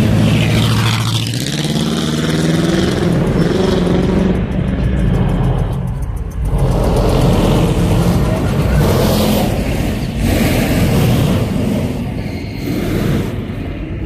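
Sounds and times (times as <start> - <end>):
car engines revving: 0.0 - 14.0
road noise: 0.0 - 14.0.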